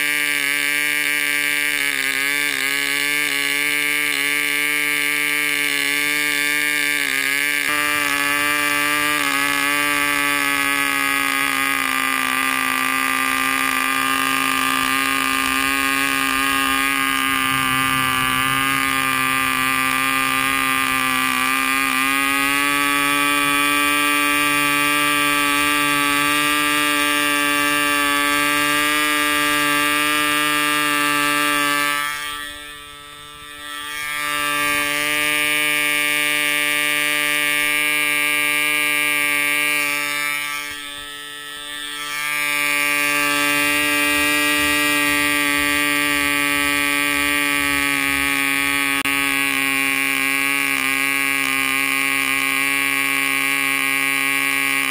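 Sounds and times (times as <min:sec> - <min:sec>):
model engine buzzing: 0:00.0 - 0:54.9.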